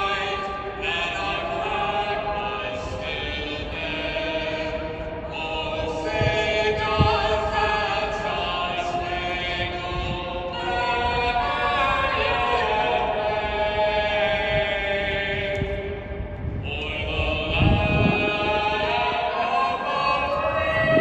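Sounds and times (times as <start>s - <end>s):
choir singing held notes: 0.0s - 21.0s.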